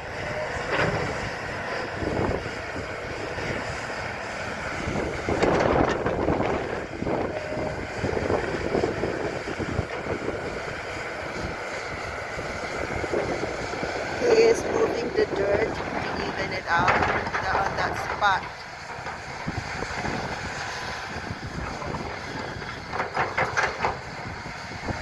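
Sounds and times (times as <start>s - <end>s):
excavator running: 0.0s - 25.0s.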